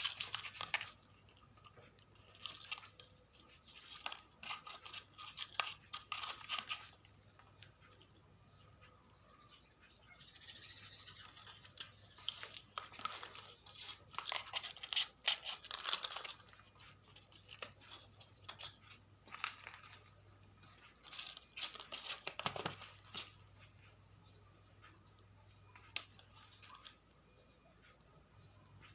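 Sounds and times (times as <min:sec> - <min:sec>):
rustling and scratching: 0:00.0 - 0:08.9, 0:10.8 - 0:28.9.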